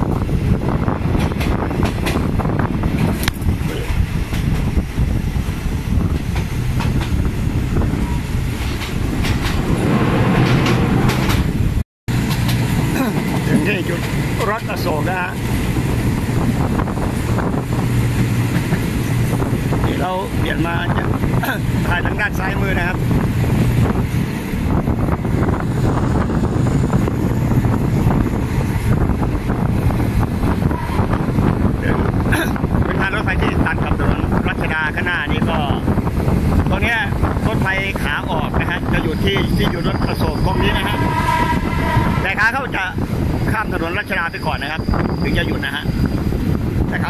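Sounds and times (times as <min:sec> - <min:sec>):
train rumble: 0:00.0 - 0:47.0
wind buffeting microphone: 0:00.0 - 0:47.0.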